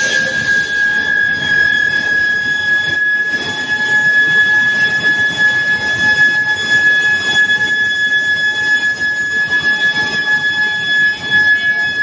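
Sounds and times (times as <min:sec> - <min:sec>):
high-pitched electrical whine: 0:00.0 - 0:12.0.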